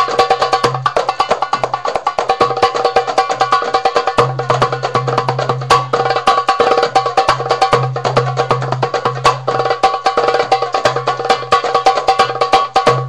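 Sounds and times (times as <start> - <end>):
hand drum solo: 0.0 - 13.0.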